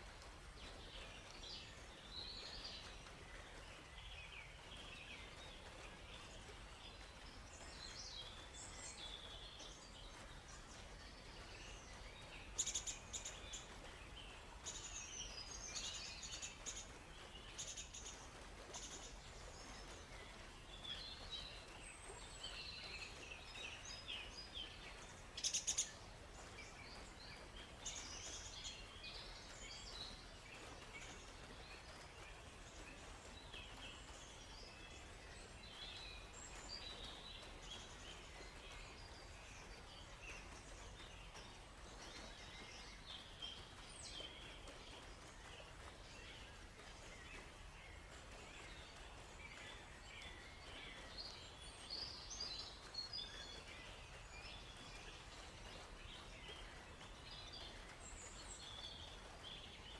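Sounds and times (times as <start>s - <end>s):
faint steady hiss: 0.0s - 59.9s
songbirds chirping and singing: 0.2s - 59.9s.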